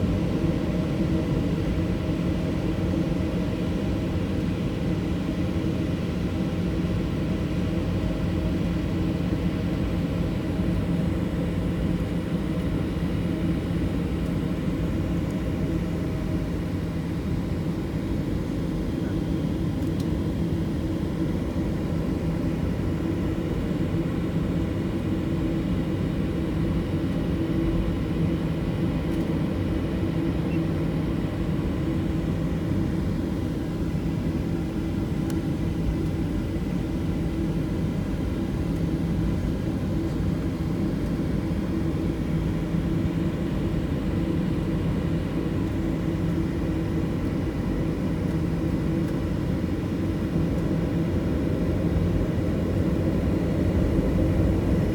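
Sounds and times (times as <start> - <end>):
jet engines running: 10.6 - 54.9.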